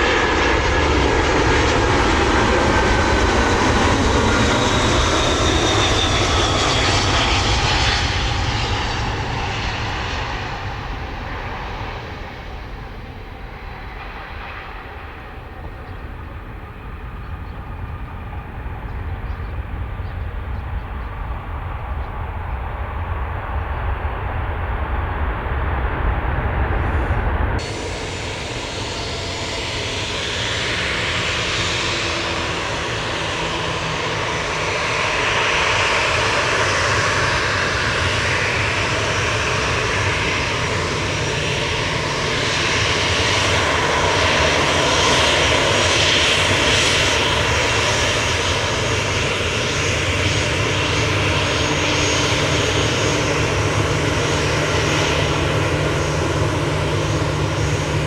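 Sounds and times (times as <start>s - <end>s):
airliner engines roaring: 0.0s - 58.0s.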